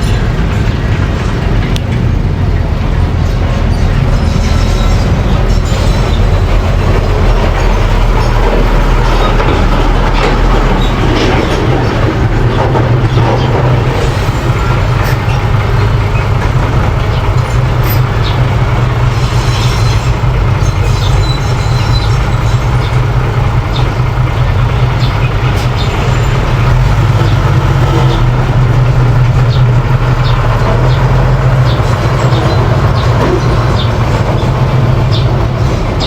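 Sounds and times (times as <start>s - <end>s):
bulldozer diesel engine running: 0.0s - 36.0s
clanks of steel tracks: 0.0s - 36.0s.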